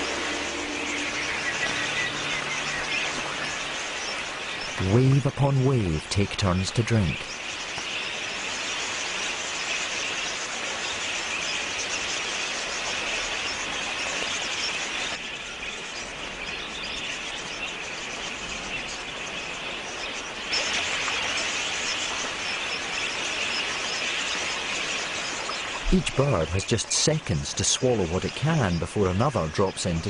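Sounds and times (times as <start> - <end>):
budgerigars chattering: 0.0 - 30.0.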